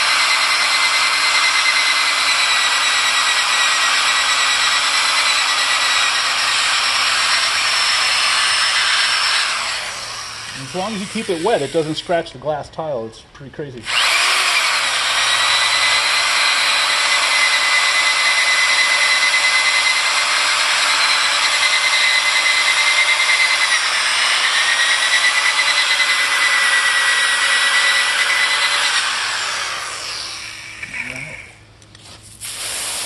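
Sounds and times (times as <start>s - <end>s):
power drill motor whine: 0.0s - 12.2s, 13.8s - 31.6s.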